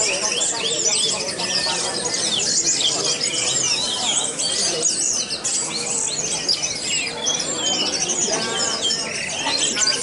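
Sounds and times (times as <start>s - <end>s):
thrushes singing: 0.0s - 10.0s.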